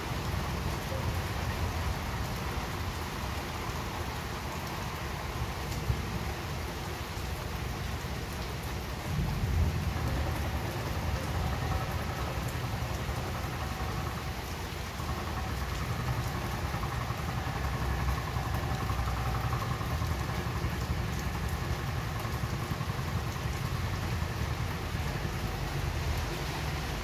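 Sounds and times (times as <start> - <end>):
raindrop ticks: 0.0 - 27.0
steady rainfall: 0.0 - 27.0.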